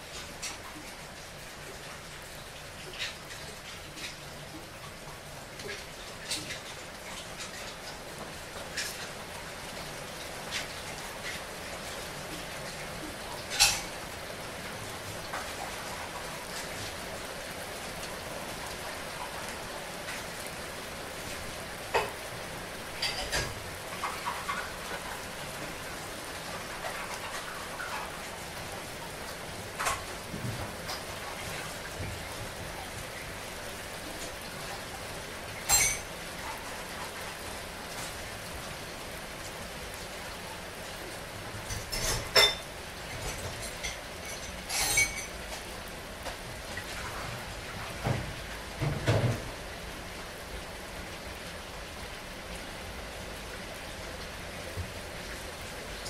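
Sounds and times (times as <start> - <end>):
patter of falling water: 0.0 - 56.0.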